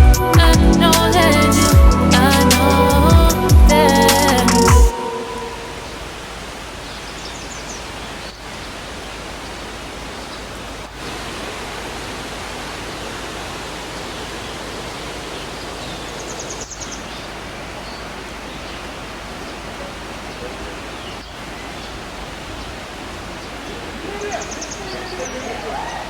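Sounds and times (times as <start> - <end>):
river water rushing over rocks: 4.2 - 26.0.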